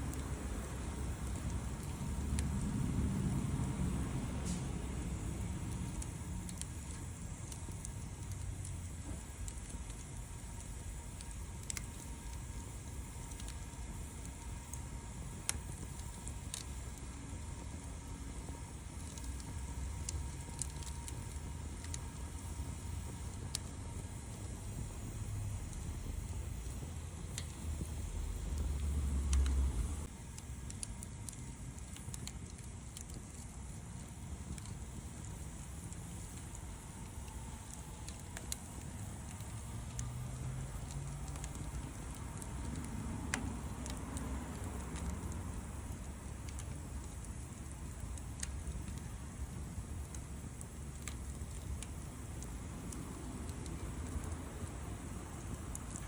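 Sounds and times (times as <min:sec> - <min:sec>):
campfire crackling: 0:00.0 - 0:56.0
low fire rumble: 0:00.0 - 0:56.0.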